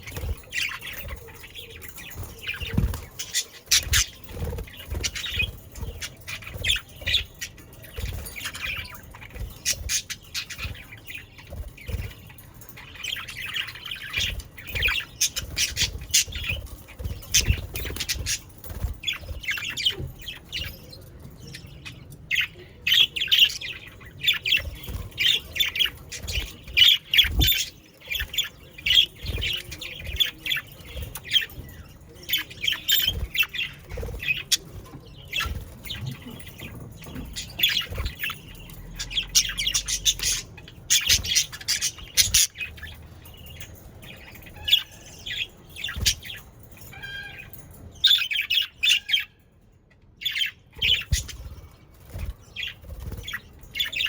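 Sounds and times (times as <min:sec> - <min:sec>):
budgerigars chattering and squawking: 0:00.0 - 0:43.1, 0:44.1 - 0:49.4, 0:50.2 - 0:54.0.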